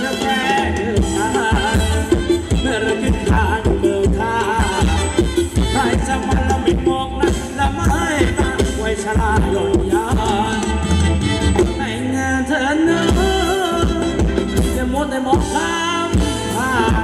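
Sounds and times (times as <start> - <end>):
steady drum beat: 0.0 - 12.0, 13.0 - 17.0.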